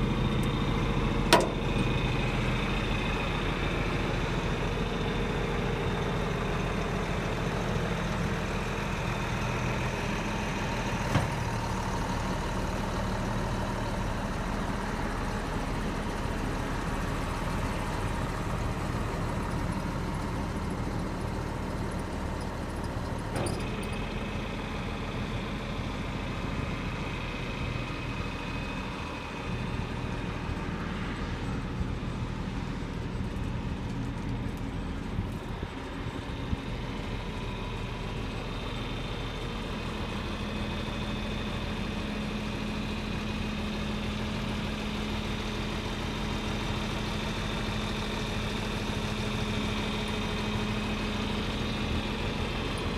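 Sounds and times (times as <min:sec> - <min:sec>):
engine running steadily: 0:00.0 - 0:52.9.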